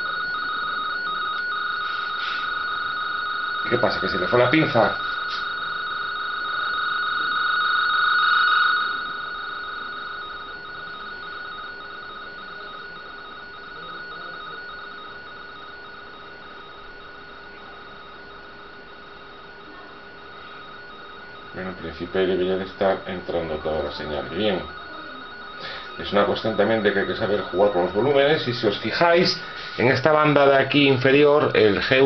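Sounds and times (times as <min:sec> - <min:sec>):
radioteletype tones: 0:00.0 - 0:32.0.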